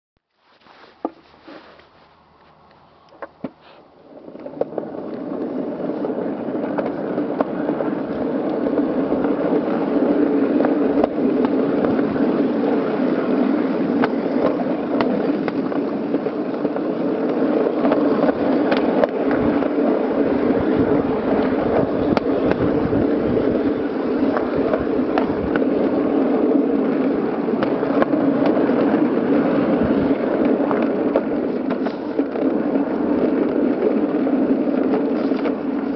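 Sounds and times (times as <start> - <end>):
miniature train rolling on rails: 4.1 - 35.9.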